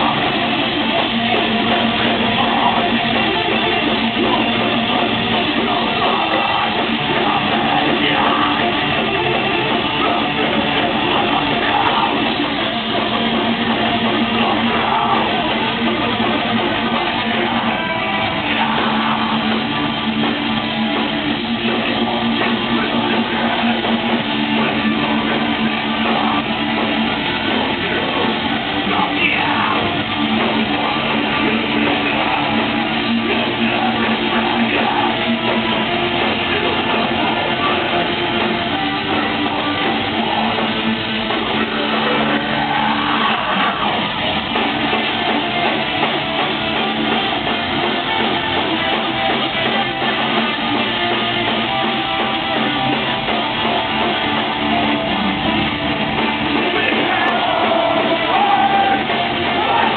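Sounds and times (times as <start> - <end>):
live metal band playing: 0.0 - 59.9.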